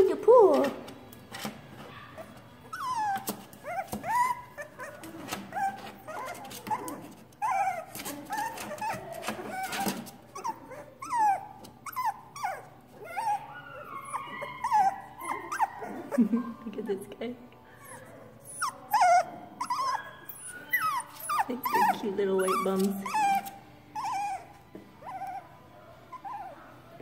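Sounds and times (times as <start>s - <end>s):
puppies whimpering and yipping: 1.5s - 16.7s, 17.7s - 27.0s.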